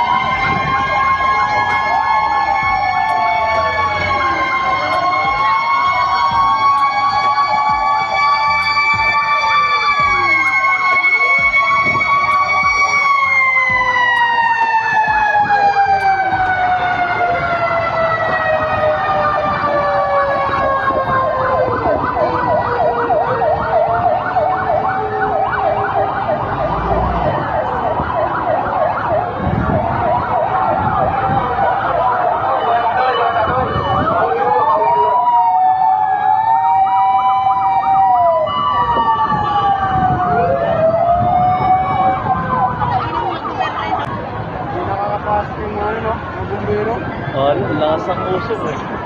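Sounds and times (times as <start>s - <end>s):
fire truck sirens wailing: 0.0s - 49.0s.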